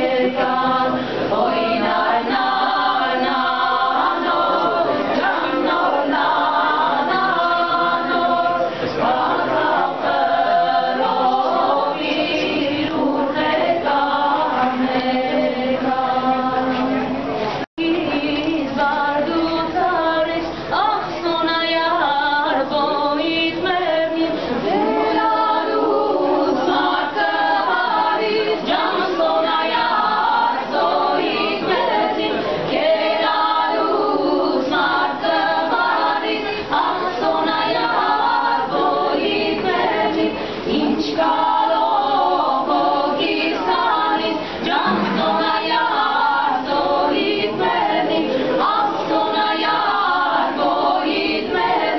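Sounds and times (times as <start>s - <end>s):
women singing in harmony: 0.0s - 51.9s.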